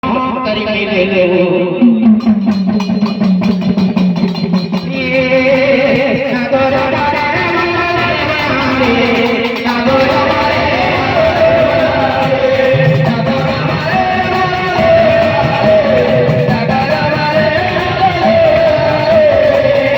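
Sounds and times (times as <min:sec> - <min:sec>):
quick percussion beat: 0:01.8 - 0:19.9.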